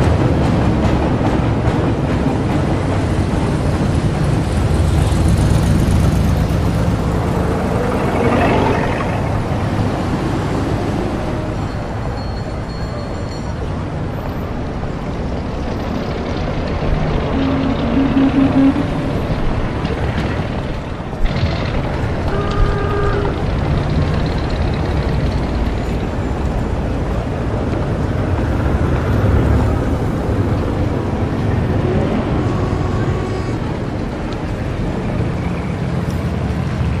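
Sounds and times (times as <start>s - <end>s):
rumble of cars and traffic: 0.0s - 37.0s.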